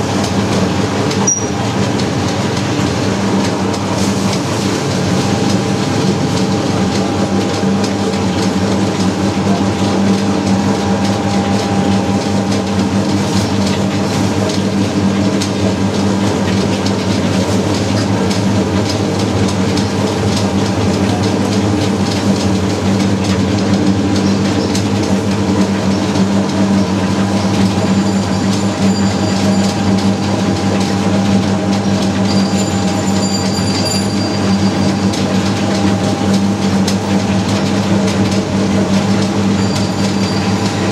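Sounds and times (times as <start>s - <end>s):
machine motor hum and rattle: 0.0s - 40.9s.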